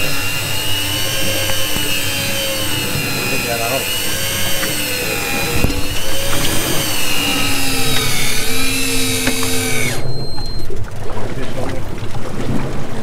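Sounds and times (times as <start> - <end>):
electric fishing reel motor whining: 0.0 - 10.8.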